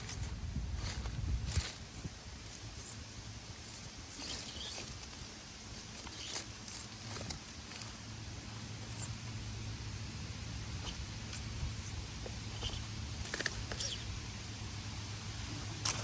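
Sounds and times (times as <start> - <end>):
low steady motor hum: 0.0 - 16.0.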